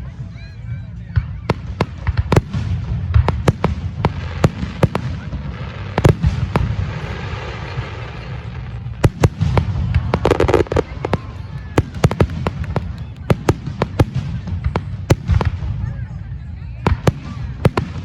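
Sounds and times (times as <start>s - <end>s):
fireworks bangs and pops: 1.2s - 16.1s, 16.8s - 18.0s.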